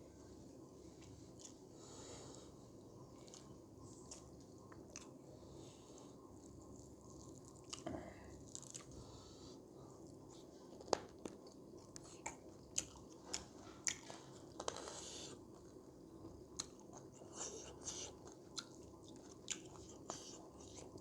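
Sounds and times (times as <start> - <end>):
person chewing food: 0.9 - 9.3, 10.0 - 21.0.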